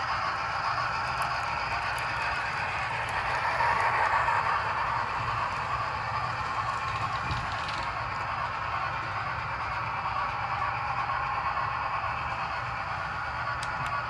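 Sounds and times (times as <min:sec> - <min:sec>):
model locomotives whirring on track: 0:00.0 - 0:14.0.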